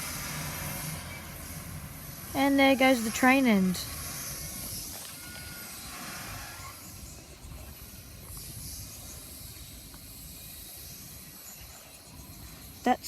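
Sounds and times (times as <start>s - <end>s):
high hiss: 0.0s - 13.0s
train rumbling: 0.0s - 13.0s.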